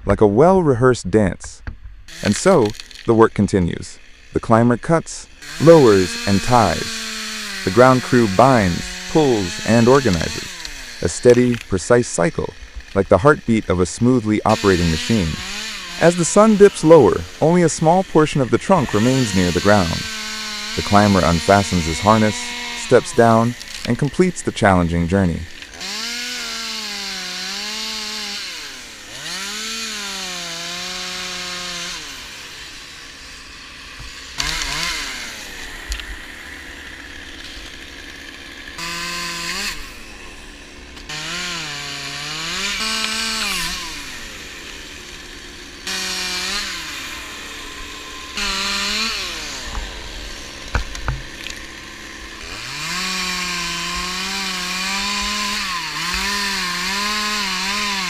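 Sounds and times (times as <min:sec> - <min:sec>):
chainsaw revving while cutting wood: 0:02.1 - 0:03.1, 0:05.3 - 0:58.0.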